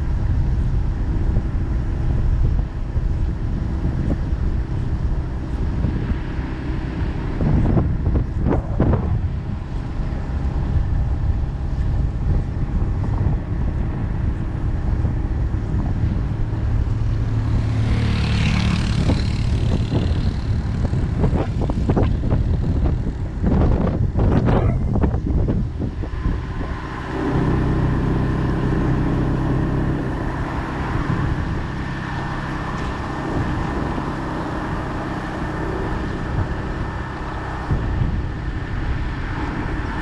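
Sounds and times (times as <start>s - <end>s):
vehicle engine and road rumble: 0.0s - 40.0s
wind buffeting the microphone: 0.0s - 40.0s.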